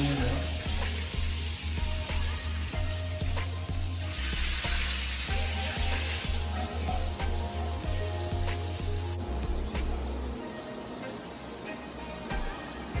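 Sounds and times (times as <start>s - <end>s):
background music: 0.0s - 13.0s
shower water spraying: 0.0s - 13.0s.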